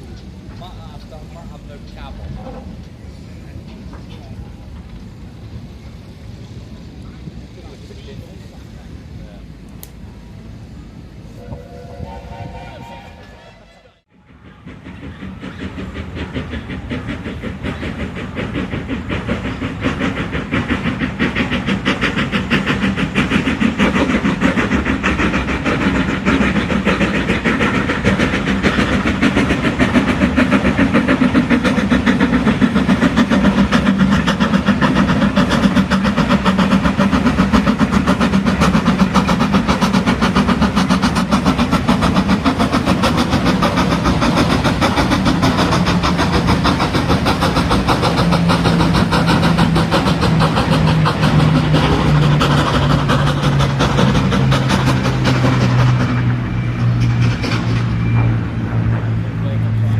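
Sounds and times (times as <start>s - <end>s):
locomotive running: 0.0s - 59.9s.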